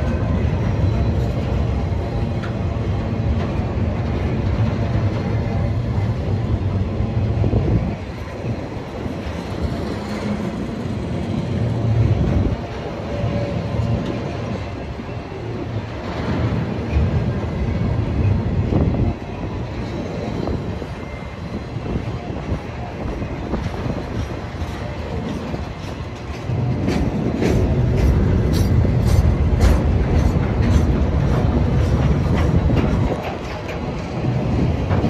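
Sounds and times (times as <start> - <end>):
train rumbling by: 0.0 - 35.0.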